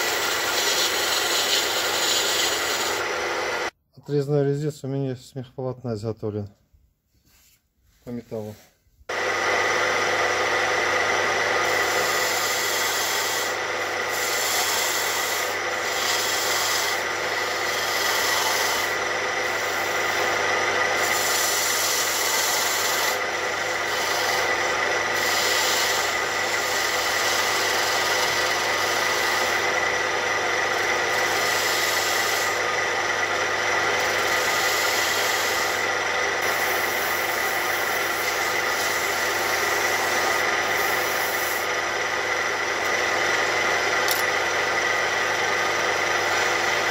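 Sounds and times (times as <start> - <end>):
tool scraping spinning wood: 0.0 - 3.7, 9.1 - 46.9
wood lathe motor whine: 0.0 - 3.7, 9.1 - 46.9.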